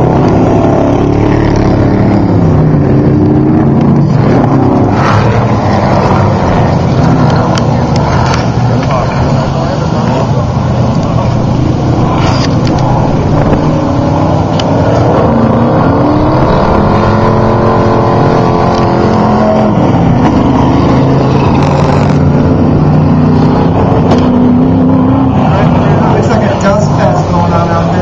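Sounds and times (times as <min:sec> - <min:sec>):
race truck engines running loud: 0:00.0 - 0:28.0.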